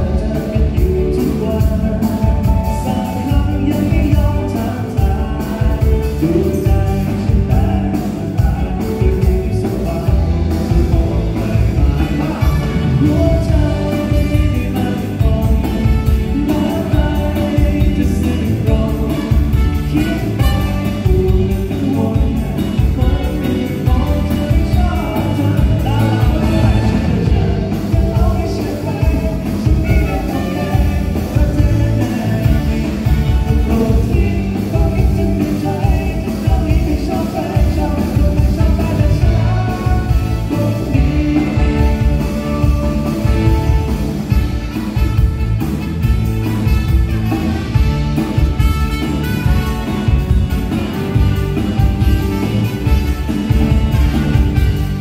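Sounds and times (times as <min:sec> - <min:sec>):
person singing: 0:00.0 - 0:45.6
heavy bass: 0:00.0 - 0:55.0
live rock band playing: 0:00.0 - 0:55.0
steady drum beat: 0:00.0 - 0:55.0.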